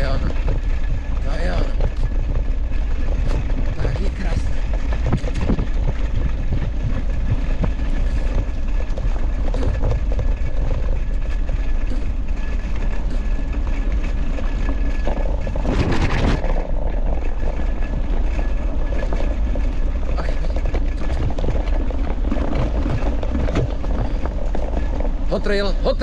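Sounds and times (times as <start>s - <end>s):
scooter rattling over dirt track: 0.0s - 26.0s
wind rumble on microphone: 0.0s - 26.0s.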